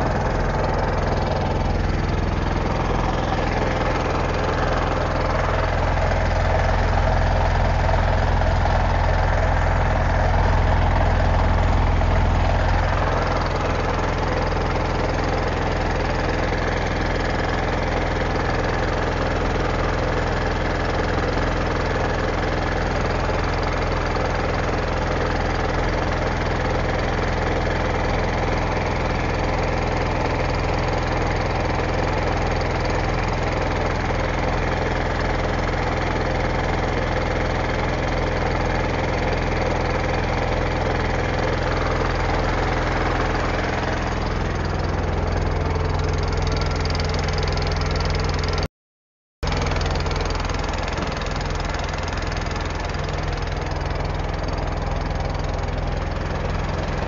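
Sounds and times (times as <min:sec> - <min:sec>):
boat engine running: 0:00.0 - 0:48.7, 0:49.4 - 0:57.0.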